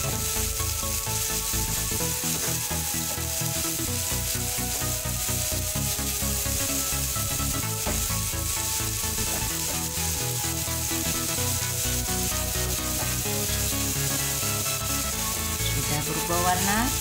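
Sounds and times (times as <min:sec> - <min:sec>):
background music: 0:00.0 - 0:17.0
spatula stirring in pan: 0:00.0 - 0:17.0
vegetables sizzling in frying pan: 0:00.0 - 0:17.0.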